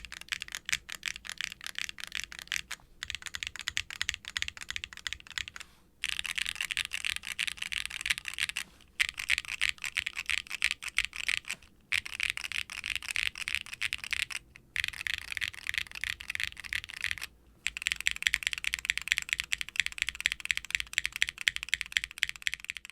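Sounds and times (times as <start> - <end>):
fast typing on keyboard: 0.0 - 22.9.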